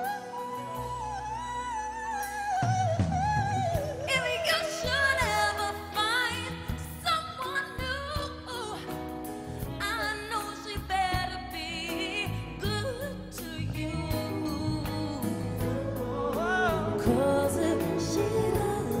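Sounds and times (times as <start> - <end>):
band with keyboards and bass: 0.0 - 19.0
woman singing soul ballad: 0.0 - 19.0.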